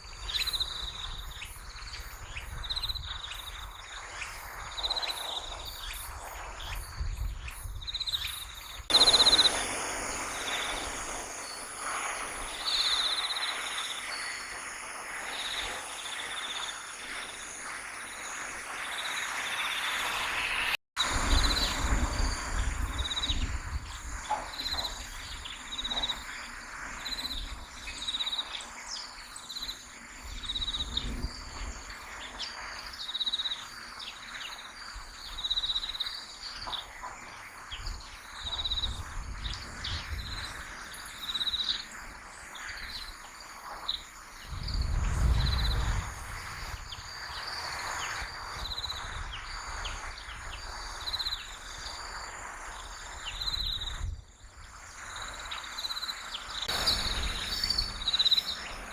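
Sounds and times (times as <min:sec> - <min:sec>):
insects chirping in pulses: 0:00.0 - 0:58.9.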